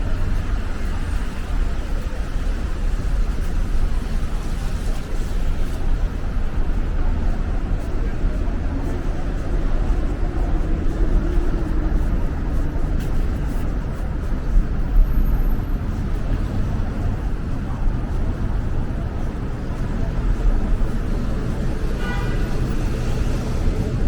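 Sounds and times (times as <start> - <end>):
low traffic rumble: 0.0 - 24.0.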